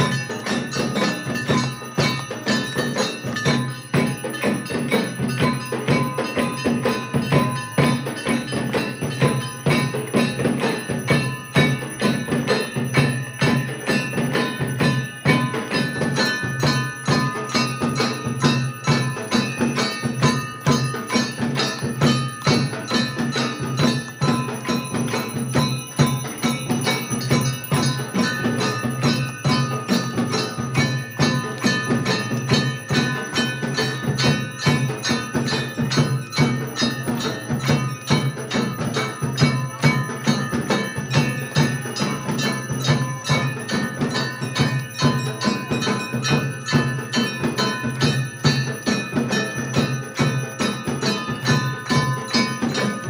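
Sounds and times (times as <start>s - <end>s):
temple bells ringing rapidly: 0.0s - 53.0s.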